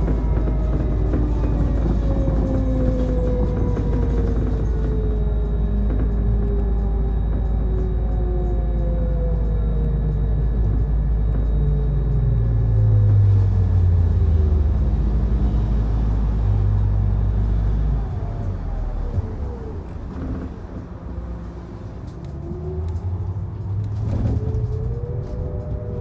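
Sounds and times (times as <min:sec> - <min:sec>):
electric bus drive whine: 0:00.0 - 0:26.0
low drone: 0:00.0 - 0:26.0
low road rumble: 0:00.0 - 0:26.0.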